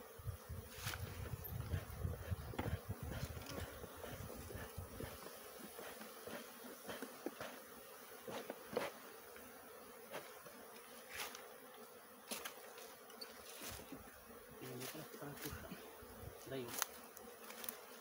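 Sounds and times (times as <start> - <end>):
bee buzzing close by: 0.0 - 18.0
honeybees buzzing: 0.0 - 18.0.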